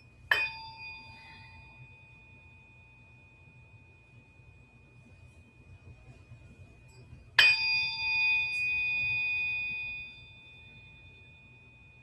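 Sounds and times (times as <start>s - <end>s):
faint steady high tone: 0.0s - 12.0s
tuning fork ringing: 0.0s - 12.0s.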